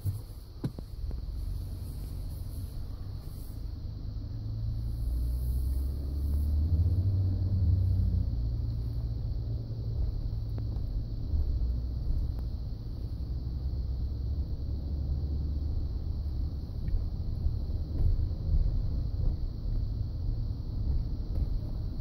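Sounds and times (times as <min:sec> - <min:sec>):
low grinding rumble from steering: 0:00.0 - 0:22.0.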